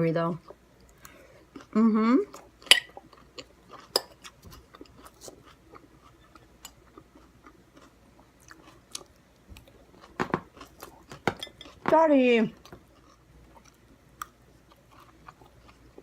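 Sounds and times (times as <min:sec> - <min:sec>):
person chewing food: 0:00.4 - 0:11.9, 0:12.6 - 0:16.0.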